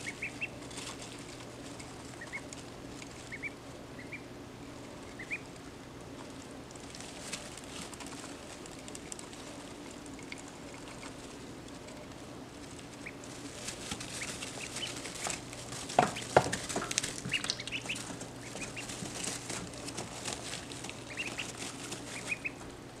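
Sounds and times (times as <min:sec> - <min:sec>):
ducklings peeping: 0:00.0 - 0:23.0
faint low hum: 0:00.0 - 0:23.0
rustling in wood shavings: 0:00.0 - 0:23.0.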